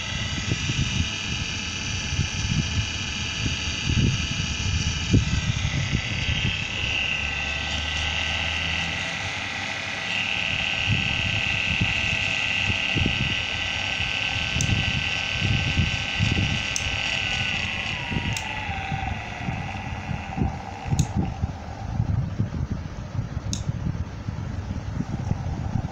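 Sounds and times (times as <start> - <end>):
servo motor whine: 0.0 - 23.0, 24.7 - 25.9.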